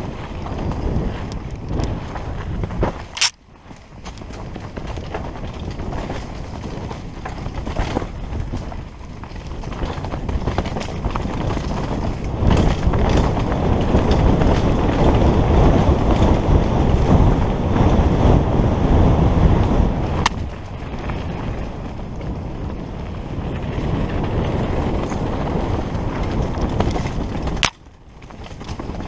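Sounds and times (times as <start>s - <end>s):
bike knocks and rattles: 0.0s - 29.0s
tyres on dirt trail: 0.0s - 29.0s
wind rushing over microphone: 0.0s - 29.0s.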